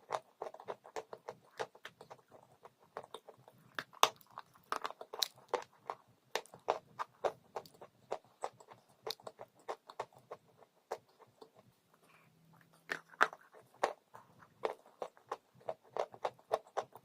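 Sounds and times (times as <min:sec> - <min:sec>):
chewing crunchy chalk: 0:00.0 - 0:17.0.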